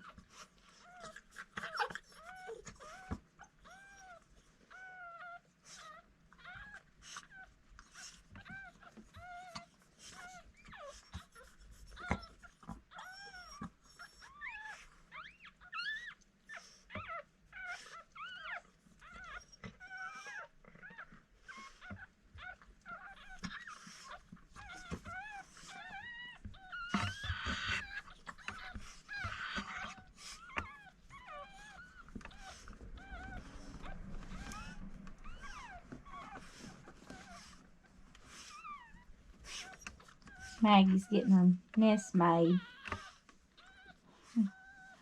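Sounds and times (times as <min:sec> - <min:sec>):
puppies whimpering and squeaking: 0:00.0 - 0:45.0.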